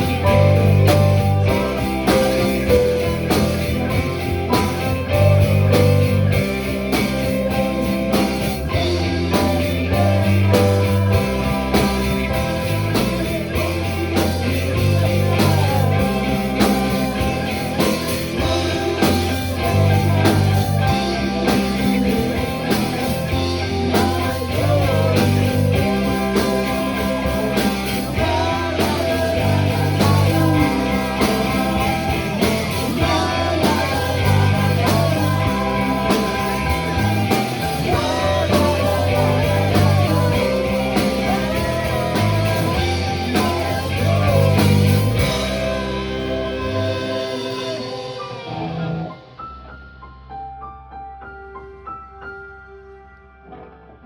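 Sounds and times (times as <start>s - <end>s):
person singing: 0.0s - 49.2s
rock band playing: 0.0s - 50.0s.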